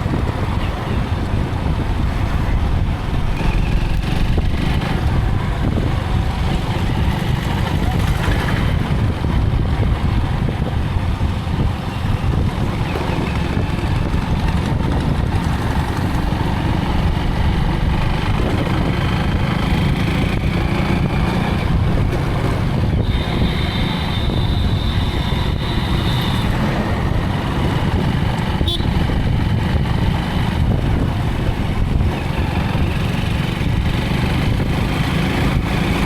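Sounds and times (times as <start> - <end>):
motorcycle engine running: 0.0 - 36.0
road noise: 0.0 - 36.0
wind rumble on microphone: 0.0 - 36.0.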